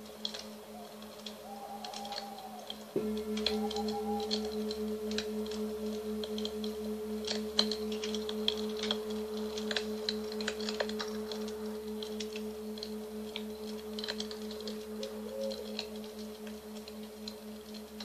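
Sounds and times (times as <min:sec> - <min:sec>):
short clicks and crackles: 0:00.0 - 0:18.0
singing bowl ringing: 0:00.0 - 0:18.0.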